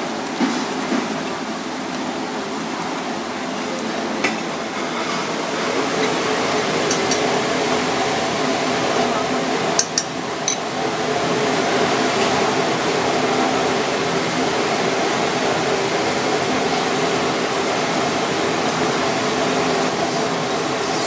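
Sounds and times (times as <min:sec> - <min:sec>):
ventilation fan whirring: 0:00.0 - 0:21.0.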